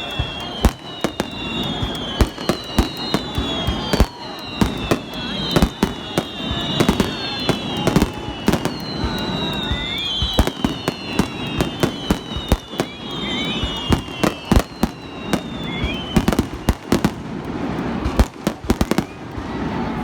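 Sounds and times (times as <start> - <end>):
short rising whistles: 0.0 - 17.2
descending firework whistles: 0.0 - 20.0
fireworks bangs: 0.0 - 20.0.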